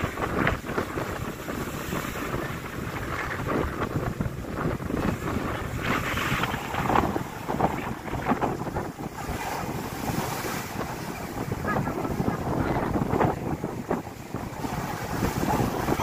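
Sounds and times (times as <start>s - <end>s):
waves breaking on beach: 0.0s - 16.0s
wind buffeting microphone: 0.0s - 16.0s.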